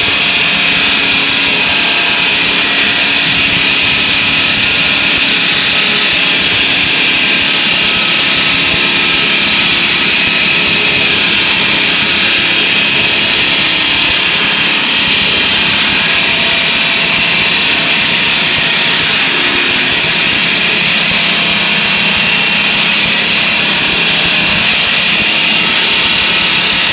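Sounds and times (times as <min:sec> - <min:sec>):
circular saw blade cutting: 0:00.0 - 0:26.9.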